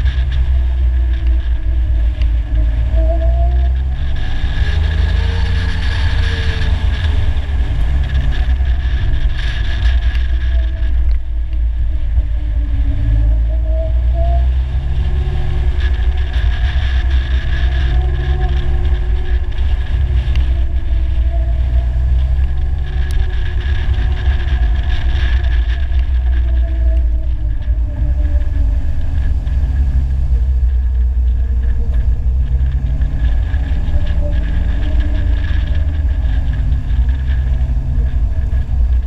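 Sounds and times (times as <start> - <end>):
vehicle engine running: 0.0 - 39.0
wind rumble on microphone: 0.0 - 39.0.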